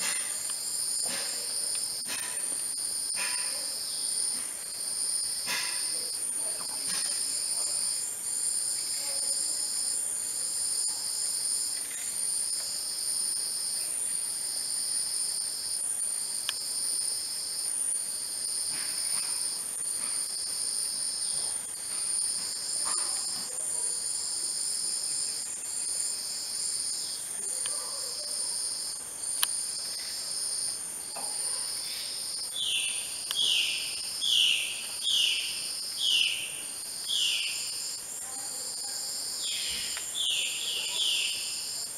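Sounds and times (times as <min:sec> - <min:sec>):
insect high-pitched drone: 0:00.0 - 0:41.9
pulsing insect call: 0:00.0 - 0:41.9.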